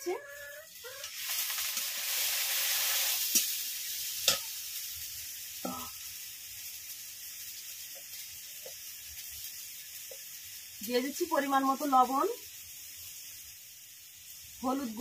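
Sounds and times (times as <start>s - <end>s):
spice paste sizzling in hot oil: 0.0s - 15.0s.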